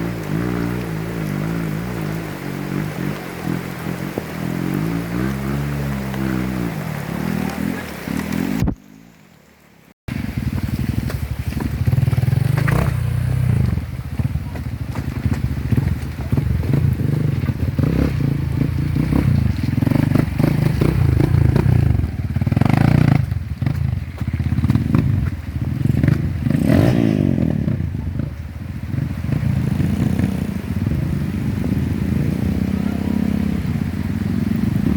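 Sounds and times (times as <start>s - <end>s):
motorcycle engine revving: 0.0s - 9.1s, 10.1s - 34.9s.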